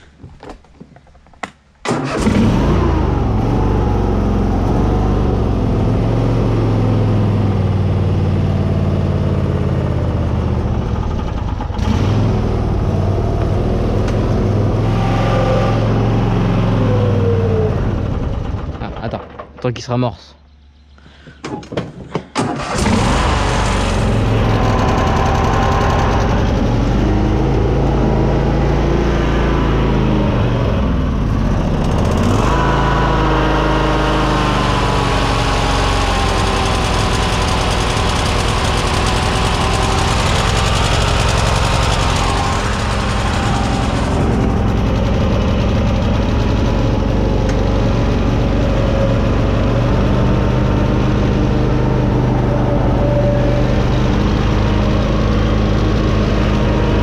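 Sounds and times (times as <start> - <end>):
mower engine running: 1.9 - 19.4, 22.4 - 57.0.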